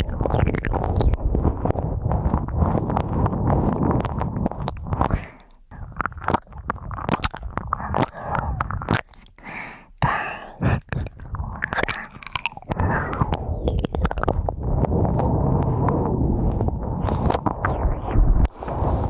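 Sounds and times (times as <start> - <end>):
scraping and rubbing at microphone: 0.0 - 9.1, 10.6 - 19.0
sharp crackling clicks: 0.0 - 9.5, 10.9 - 19.0.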